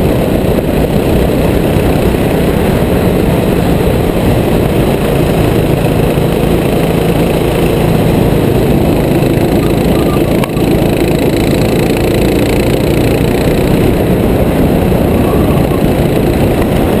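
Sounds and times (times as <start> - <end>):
kart engine running at speed: 0.0 - 17.0.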